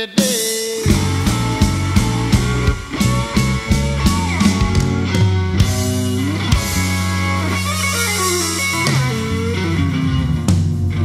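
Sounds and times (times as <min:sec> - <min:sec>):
bass line: 0:00.0 - 0:11.0
guitar-led background music: 0:00.0 - 0:11.0.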